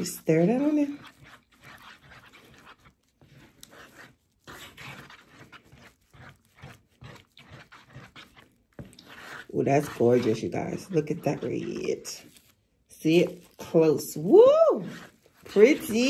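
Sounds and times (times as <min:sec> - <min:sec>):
spoon stirring sticky gel: 0:00.0 - 0:16.0.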